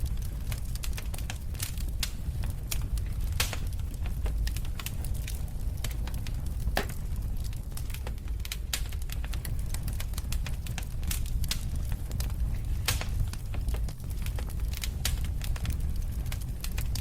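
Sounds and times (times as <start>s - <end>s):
burning logs crackling and popping: 0.0s - 17.0s
flames rumbling: 0.0s - 17.0s.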